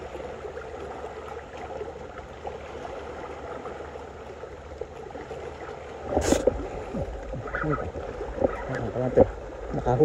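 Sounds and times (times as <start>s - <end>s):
waves lapping against rocks: 0.0s - 10.0s.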